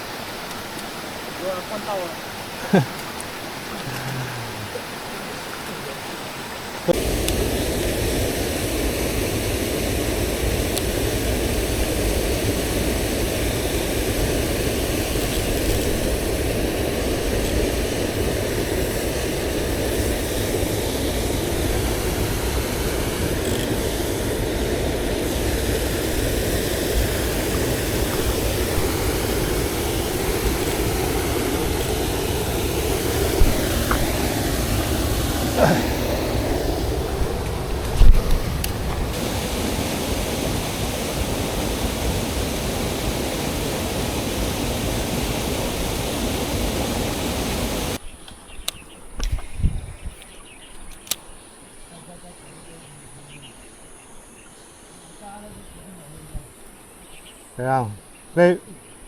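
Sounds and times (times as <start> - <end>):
stream rushing over rocks: 0.0 - 48.0.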